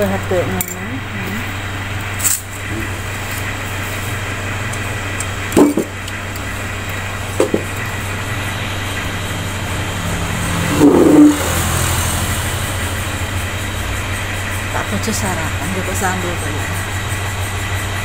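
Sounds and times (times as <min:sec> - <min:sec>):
motorbike engine idling: 0:00.0 - 0:18.0.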